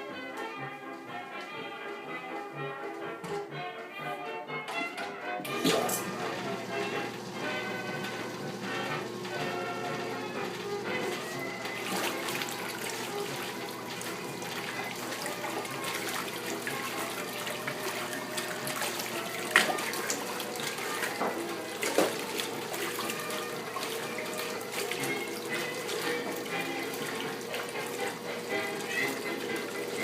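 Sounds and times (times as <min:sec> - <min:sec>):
water sloshing in washing machine: 0:05.4 - 0:30.0.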